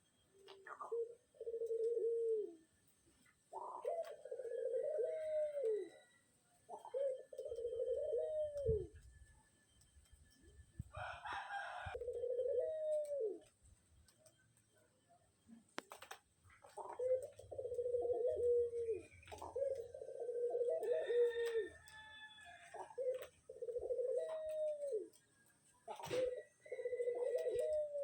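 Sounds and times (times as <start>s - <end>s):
dove cooing: 0.0s - 9.3s, 10.4s - 13.7s, 15.5s - 28.0s.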